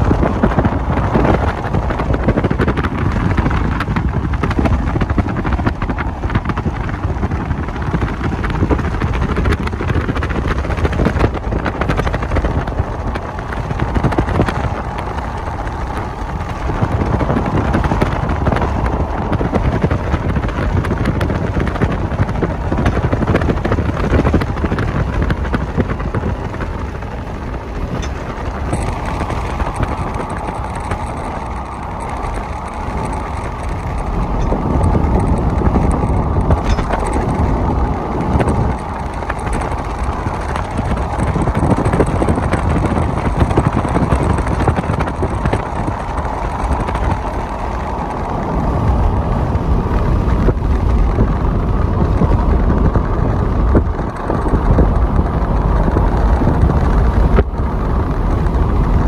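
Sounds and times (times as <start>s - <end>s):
scattered clicks: 0.0s - 49.0s
train wheels rumbling on rail: 0.0s - 59.0s.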